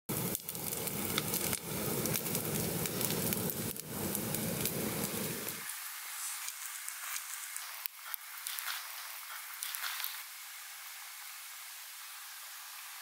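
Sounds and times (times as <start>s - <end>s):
fire crackling and popping: 0.1s - 11.4s
low rush of flame: 0.1s - 13.0s.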